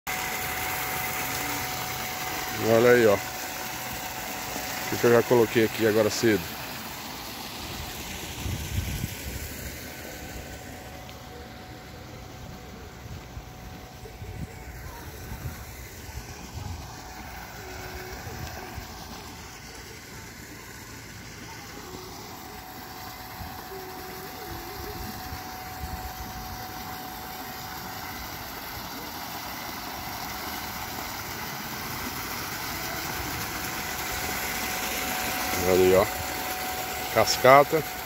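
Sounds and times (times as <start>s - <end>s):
water splashing into pool: 0.1s - 38.0s.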